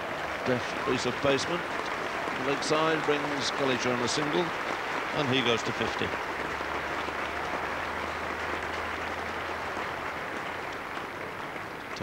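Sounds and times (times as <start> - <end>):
stadium crowd clapping: 0.0 - 12.0.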